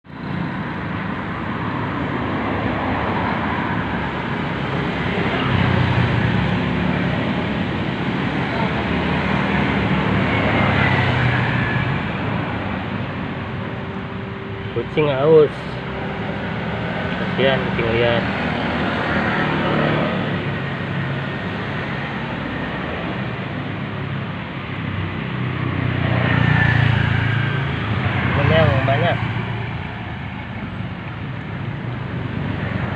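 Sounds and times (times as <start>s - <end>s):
road traffic noise: 0.0s - 32.9s
vehicle passing: 1.3s - 32.9s.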